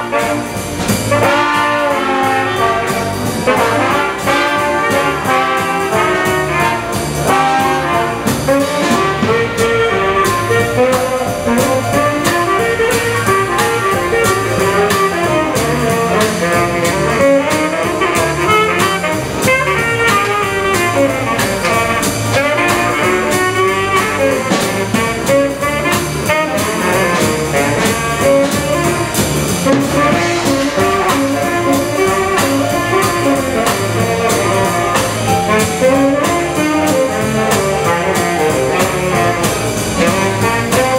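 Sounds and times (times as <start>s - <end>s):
drums: 0.0s - 40.9s
piano: 0.0s - 40.9s
saxophone: 0.0s - 40.9s
trombone: 0.0s - 40.9s
trumpet: 0.0s - 40.9s.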